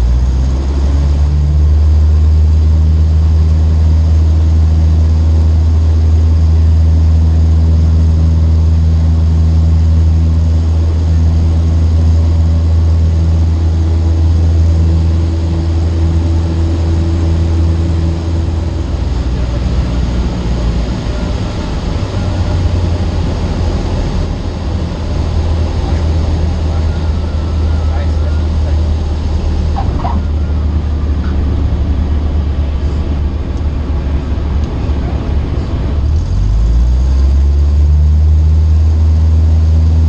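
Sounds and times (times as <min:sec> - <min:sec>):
light aircraft engine in cabin: 0:00.0 - 0:40.0.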